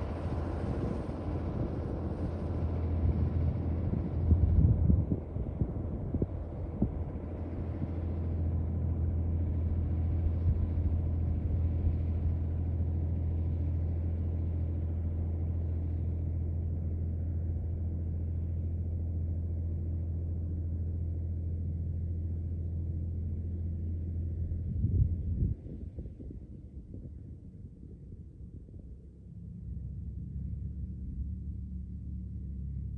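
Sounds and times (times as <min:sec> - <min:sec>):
backhoe loader engine humming: 0:00.0 - 0:25.2, 0:29.2 - 0:32.9.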